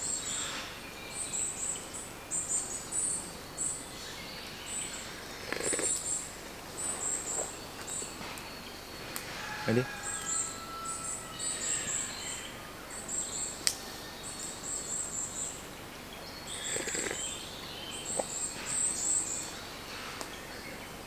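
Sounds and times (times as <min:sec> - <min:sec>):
lower bird calls: 0:02.4 - 0:21.0.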